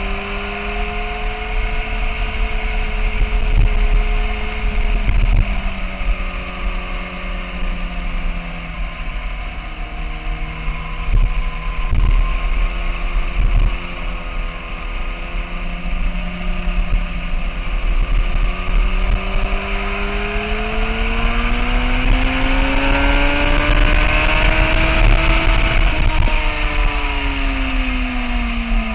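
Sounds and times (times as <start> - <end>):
sport bike engine: 0.0 - 28.9
wind noise on microphone: 0.0 - 28.9.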